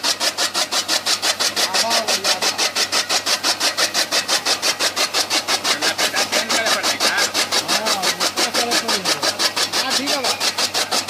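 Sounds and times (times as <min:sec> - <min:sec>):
chaff cutter chopping straw: 0:00.0 - 0:11.0.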